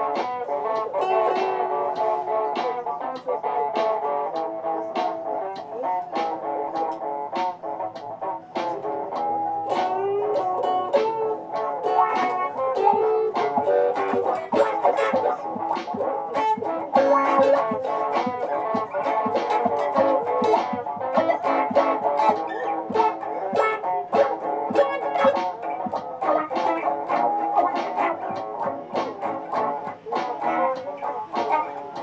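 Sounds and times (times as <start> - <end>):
looped guitar plucking: 0.0 - 32.0.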